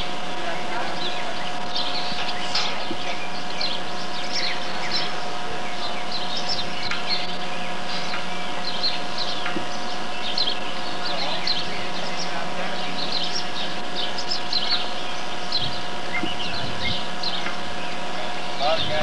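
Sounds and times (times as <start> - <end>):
small birds chirping: 0.0 - 19.0
steady hum: 0.0 - 19.0.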